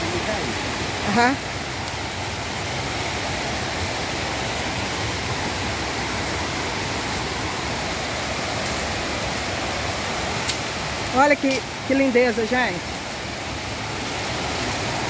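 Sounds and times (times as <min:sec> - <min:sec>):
white-water river rushing: 0:00.0 - 0:15.0.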